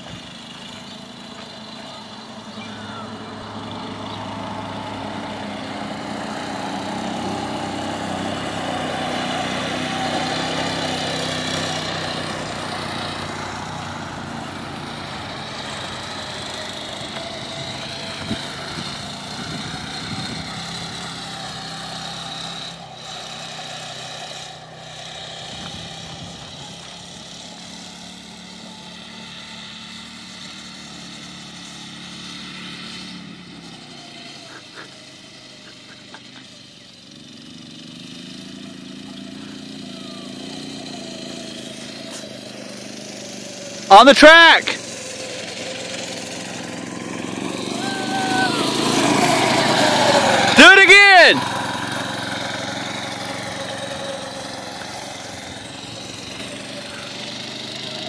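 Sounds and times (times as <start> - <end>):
dune buggy engine revving: 0.0 - 58.0.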